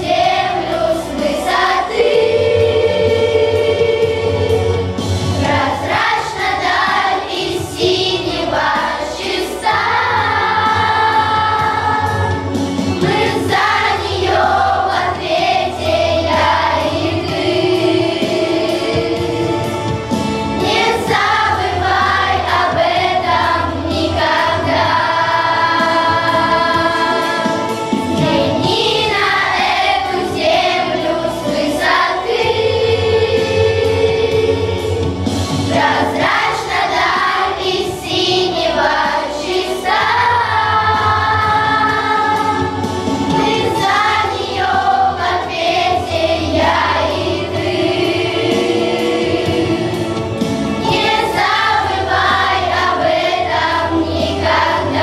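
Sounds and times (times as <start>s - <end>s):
children's choir singing: 0.0s - 55.0s
low instrumental accompaniment: 0.0s - 55.0s.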